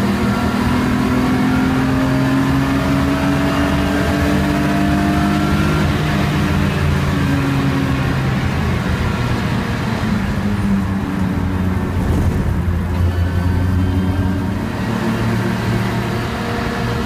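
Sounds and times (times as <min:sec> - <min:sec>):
car engine heard from inside cabin: 0:00.0 - 0:17.0
road noise: 0:00.0 - 0:17.0.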